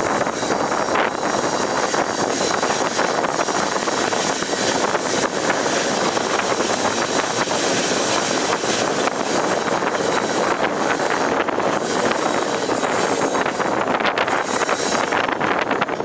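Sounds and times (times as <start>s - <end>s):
train coaches rolling over track: 0.0s - 16.0s
wind on microphone: 0.0s - 16.0s.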